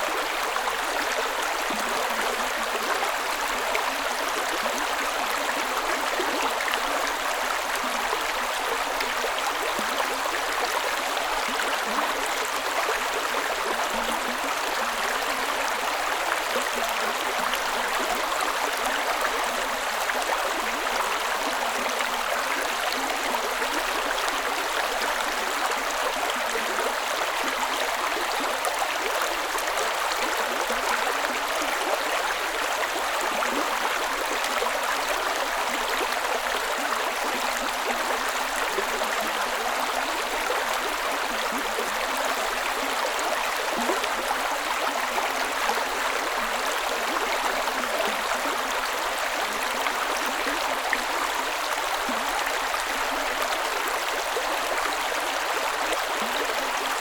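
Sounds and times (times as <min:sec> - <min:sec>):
creek water over rocks: 0:00.0 - 0:57.0.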